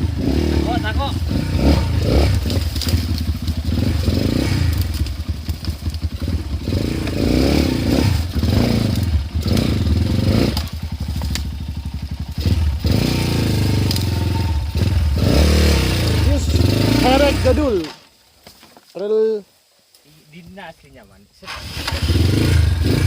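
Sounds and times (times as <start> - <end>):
dirt bike engine revving: 0.0 - 18.0, 21.4 - 23.0.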